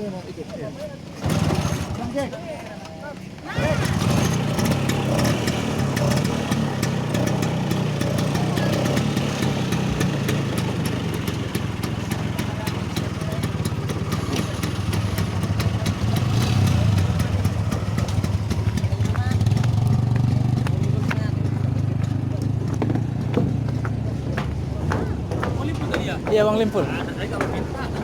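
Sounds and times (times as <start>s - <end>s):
scooter engine running: 1.2s - 2.4s, 3.5s - 28.0s.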